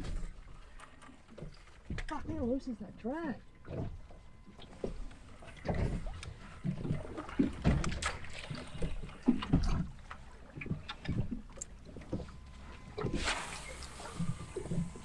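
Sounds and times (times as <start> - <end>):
waves slapping against boat hull: 0.0 - 15.0.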